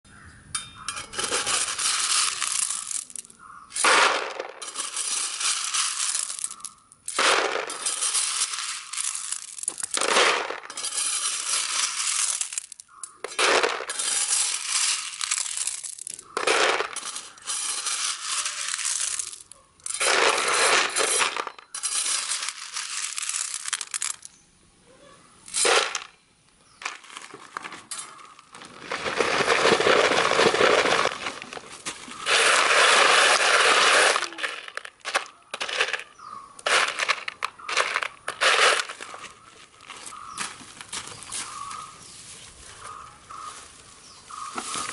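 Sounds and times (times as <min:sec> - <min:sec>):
trowel scraping gravel: 0:00.8 - 0:24.3, 0:25.5 - 0:44.9
stones clattering: 0:01.0 - 0:24.3, 0:25.5 - 0:26.2, 0:26.8 - 0:41.8.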